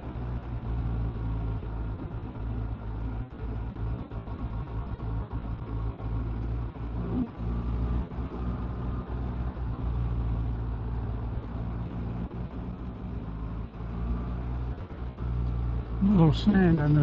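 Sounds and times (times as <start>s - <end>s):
motorcycle engine cruising: 0.0s - 17.0s
road noise: 0.0s - 17.0s.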